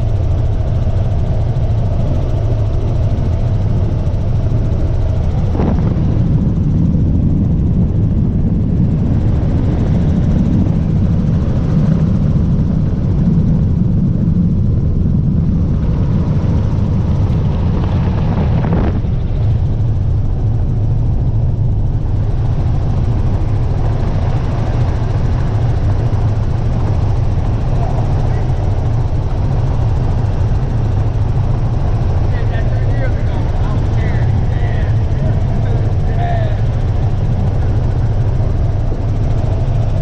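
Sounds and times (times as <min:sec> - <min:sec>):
helicopter rotor drone: 0:00.0 - 0:40.0.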